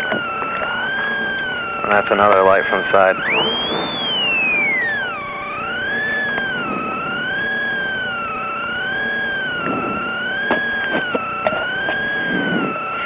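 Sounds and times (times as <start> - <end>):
wavering siren-like tone: 0.0 - 13.0.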